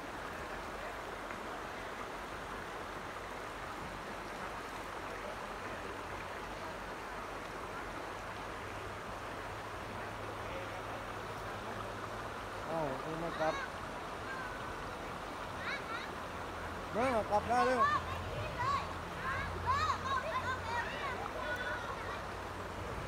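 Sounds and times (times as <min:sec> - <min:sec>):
creek water running over gravel: 0:00.0 - 0:23.0.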